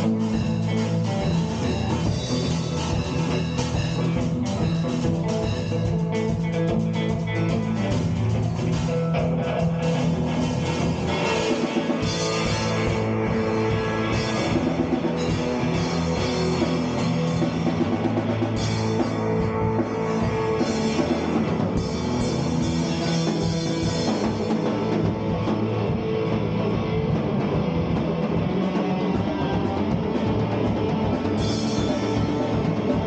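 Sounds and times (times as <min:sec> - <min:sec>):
drum kit: 0:00.0 - 0:33.0
electric guitar: 0:00.0 - 0:33.0.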